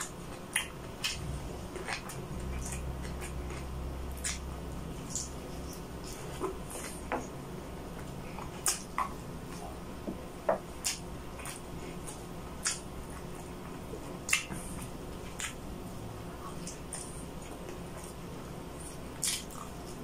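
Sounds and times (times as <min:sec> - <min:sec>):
wet chewing and lip-smacking: 0:00.0 - 0:09.9, 0:10.6 - 0:20.0
steady low hum: 0:00.0 - 0:20.0.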